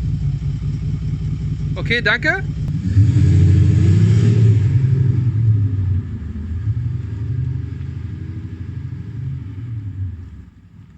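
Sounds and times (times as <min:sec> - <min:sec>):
simulated engine exhaust rumble: 0:00.0 - 0:10.9.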